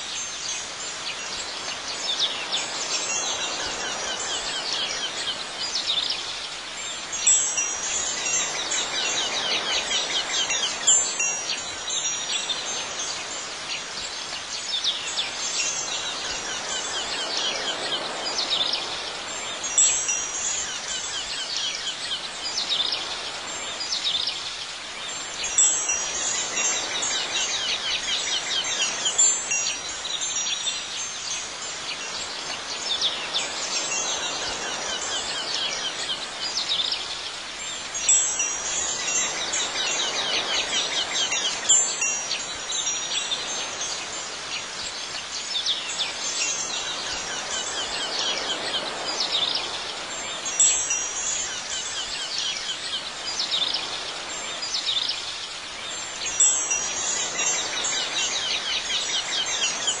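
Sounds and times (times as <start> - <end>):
wind chimes tinkling: 0.0 - 60.0.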